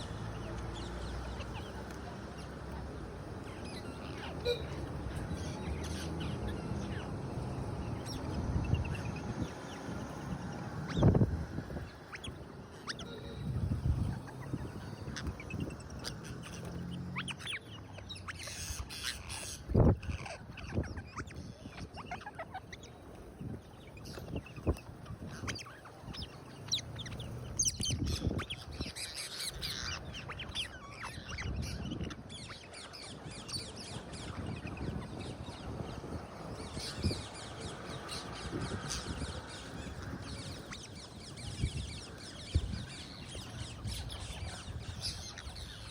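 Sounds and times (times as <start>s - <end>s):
parakeets squawking: 0.0s - 45.9s.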